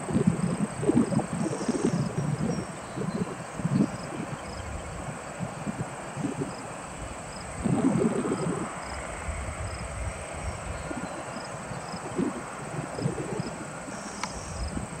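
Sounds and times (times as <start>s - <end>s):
insects chirping: 0.0s - 15.0s
steady high-pitched whine: 0.0s - 15.0s.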